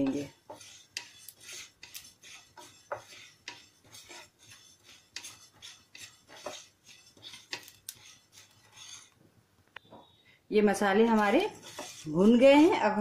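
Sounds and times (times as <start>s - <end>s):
wooden spatula scraping pan: 0.0s - 9.2s, 10.8s - 13.0s.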